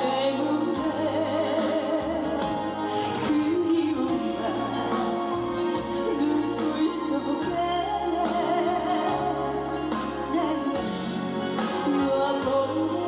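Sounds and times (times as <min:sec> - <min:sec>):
drum beats: 0:00.0 - 0:13.0
steady bass: 0:00.0 - 0:13.0.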